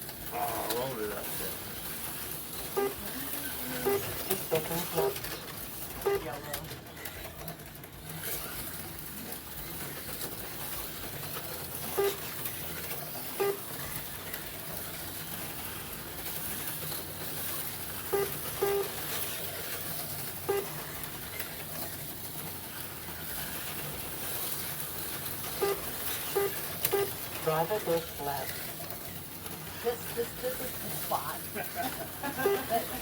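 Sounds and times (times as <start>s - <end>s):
slot cars whirring: 0.0s - 33.0s.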